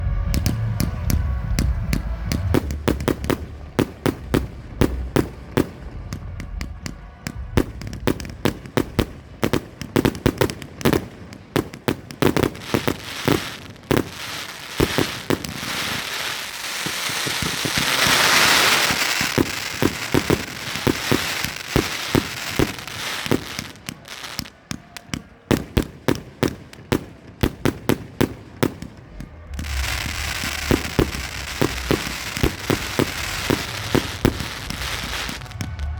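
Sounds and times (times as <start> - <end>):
firework bangs: 0.0 - 35.9
firework crackling: 0.0 - 35.9.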